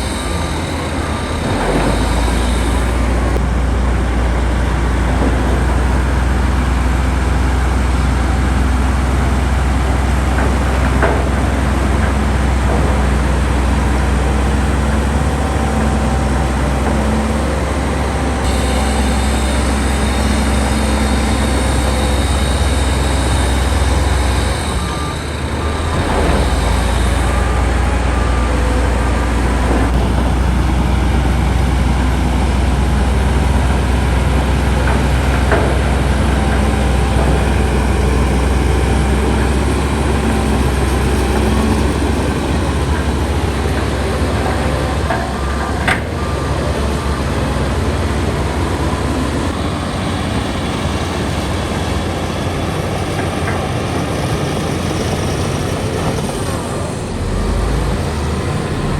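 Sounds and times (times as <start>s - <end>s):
heavy diesel machinery rumbling: 0.0s - 58.9s.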